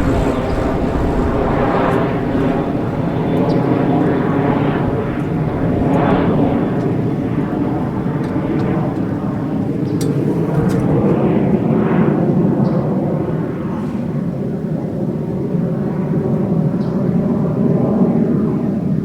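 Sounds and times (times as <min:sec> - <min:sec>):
jet aircraft flying past: 0:00.0 - 0:16.6.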